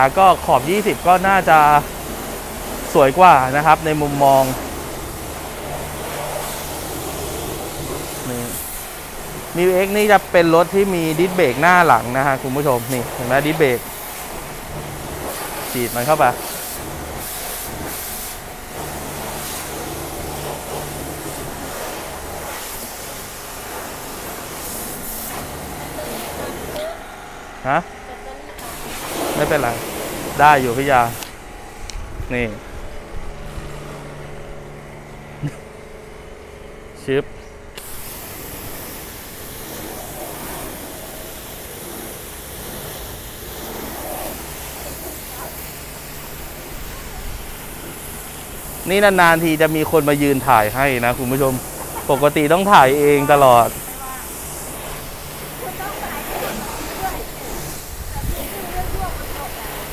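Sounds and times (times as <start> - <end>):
pressure washer spraying water: 0.0 - 27.1, 28.2 - 31.8, 37.8 - 59.9.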